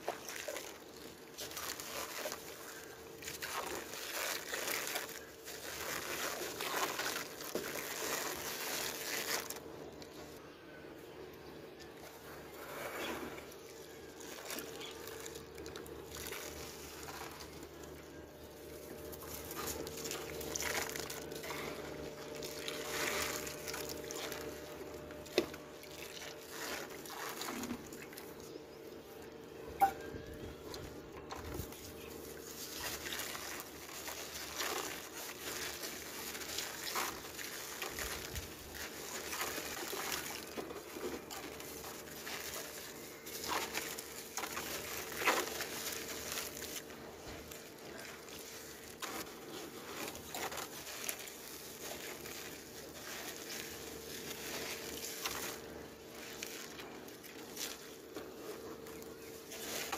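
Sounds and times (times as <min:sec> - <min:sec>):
water sloshing and splashing: 0:00.0 - 0:09.6, 0:11.9 - 0:59.9.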